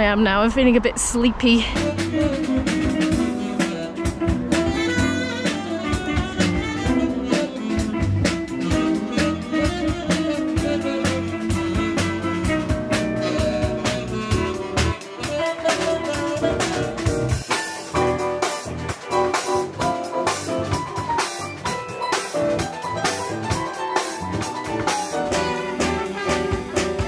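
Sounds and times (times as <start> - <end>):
drum kit busy beat: 1.4 - 27.0
jazz band music: 1.7 - 27.0.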